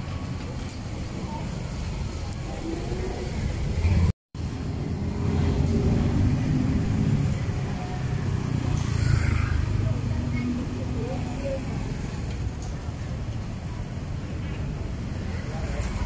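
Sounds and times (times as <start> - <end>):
vehicle engines passing close by: 0.0 - 16.0.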